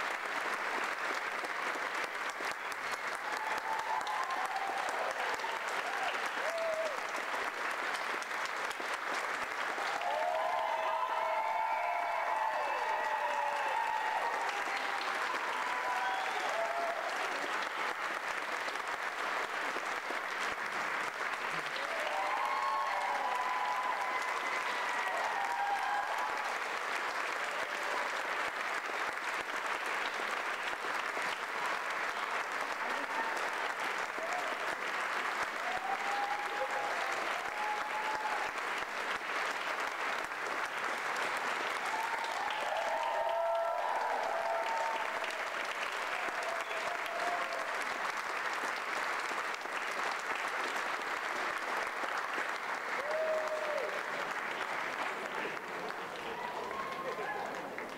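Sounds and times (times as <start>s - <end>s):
audience applauding: 0.0s - 57.9s
people cheering: 0.0s - 57.9s.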